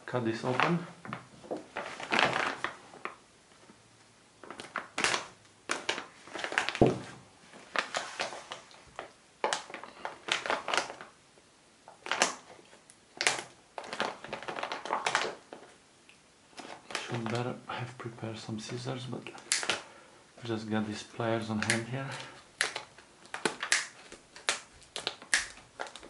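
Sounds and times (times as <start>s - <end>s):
plastic bag crinkling: 0.3s - 3.7s, 4.4s - 11.2s, 11.8s - 15.8s, 16.5s - 17.6s, 18.8s - 26.0s.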